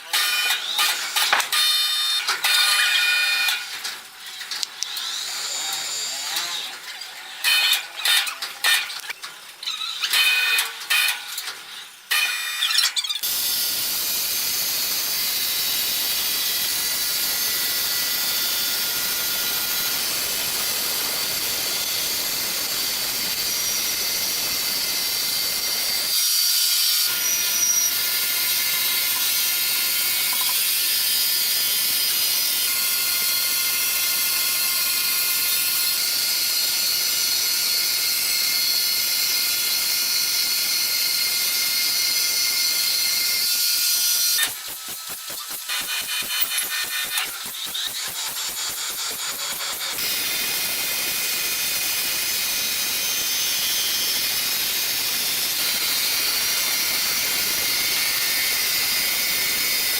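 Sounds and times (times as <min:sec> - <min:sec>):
sawmill machinery hissing and whining: 0:00.0 - 0:08.8, 0:09.6 - 0:59.9.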